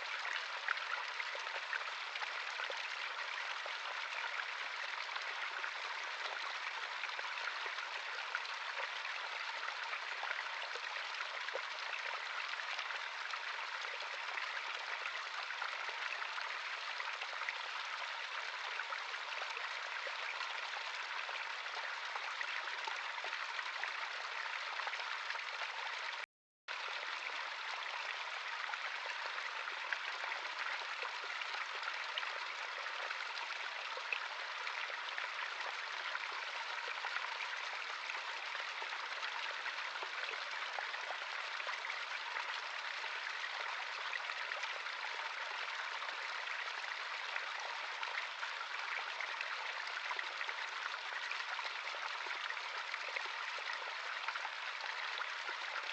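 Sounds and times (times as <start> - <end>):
stream of running water: 0.0 - 55.9.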